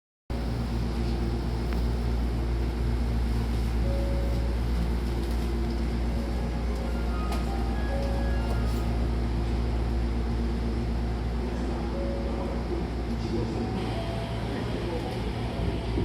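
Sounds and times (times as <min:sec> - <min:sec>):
train carriage low hum: 0:00.3 - 0:16.0.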